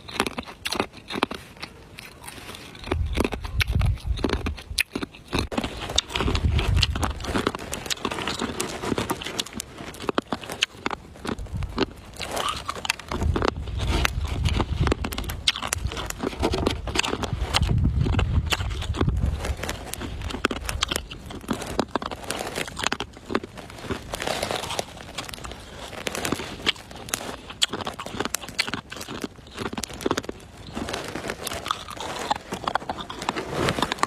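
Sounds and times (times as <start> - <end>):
ice being chewed: 0.0 - 34.0.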